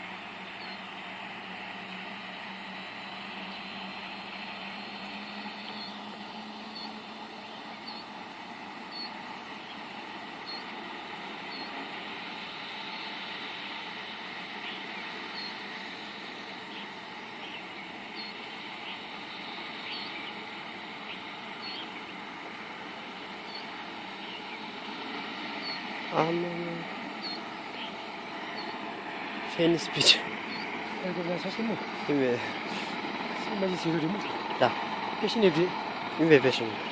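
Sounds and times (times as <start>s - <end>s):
distant helicopter drone: 0.0s - 36.9s.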